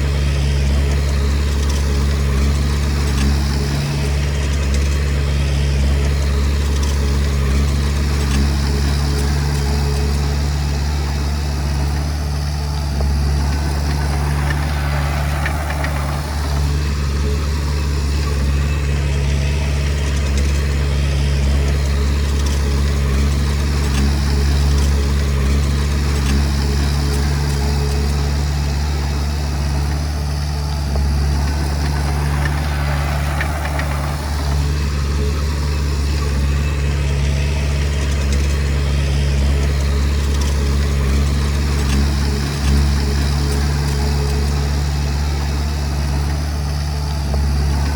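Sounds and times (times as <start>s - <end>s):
bulldozer diesel engine humming: 0.0s - 47.9s.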